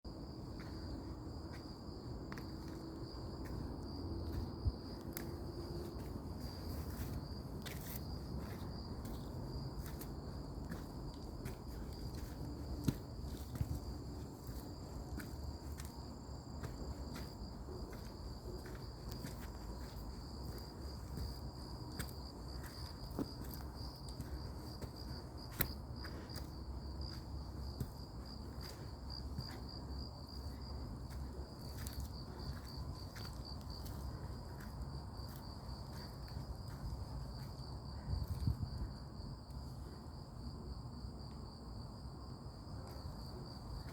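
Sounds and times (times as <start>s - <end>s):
insects trilling: 0.1s - 43.9s.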